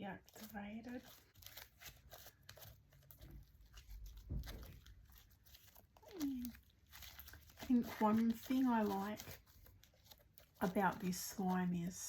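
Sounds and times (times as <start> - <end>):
slime crackling and popping: 0.3 - 10.8.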